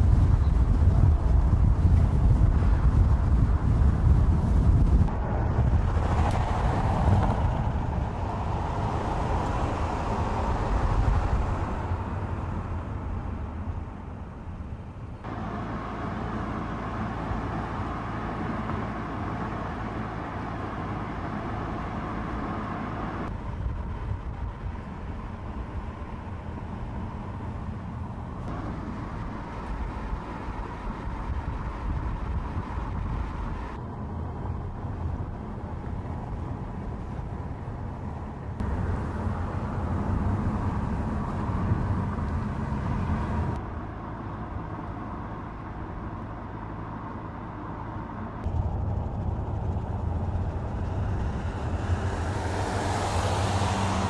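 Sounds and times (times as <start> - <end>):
car engine noise: 0.0 - 54.0
tyres on asphalt: 0.0 - 54.0.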